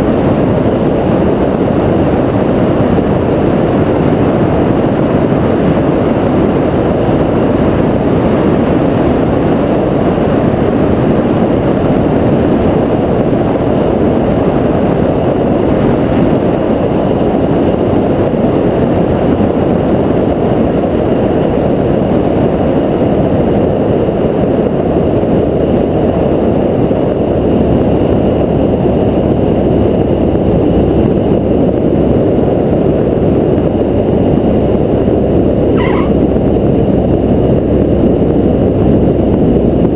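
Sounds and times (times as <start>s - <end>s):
light aircraft engine and propeller: 0.0s - 39.9s
rushing wind: 0.0s - 39.9s.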